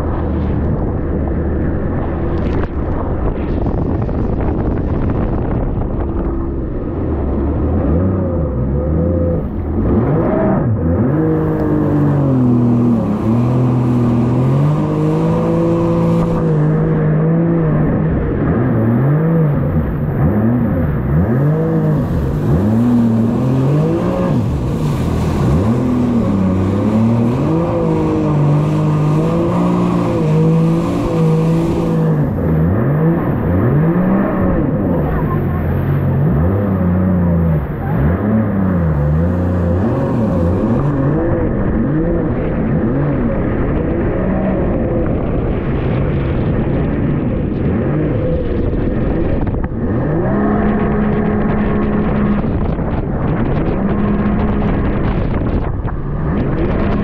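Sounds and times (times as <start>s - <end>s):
jet ski engine revving: 0.0s - 57.0s
rushing wind and water: 0.0s - 57.0s.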